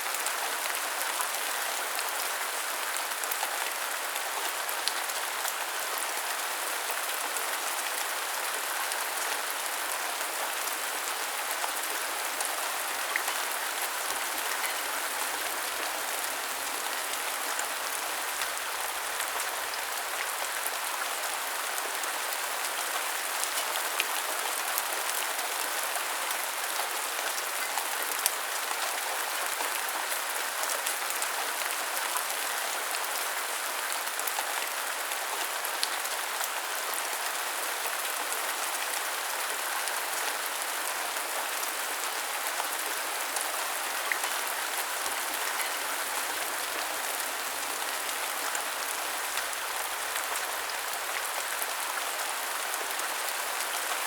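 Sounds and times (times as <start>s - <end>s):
rain pattering: 0.1s - 54.0s.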